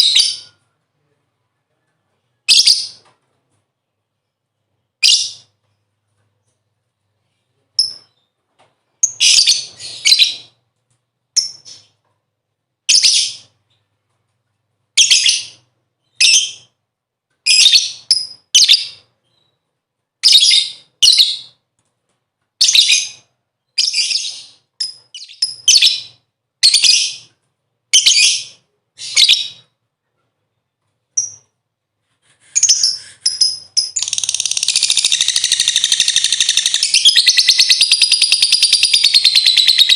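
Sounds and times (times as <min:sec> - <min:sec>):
bird chirping: 0:00.0 - 0:03.2, 0:03.8 - 0:10.6, 0:11.3 - 0:12.1, 0:14.9 - 0:16.8, 0:17.4 - 0:21.6, 0:22.6 - 0:39.9.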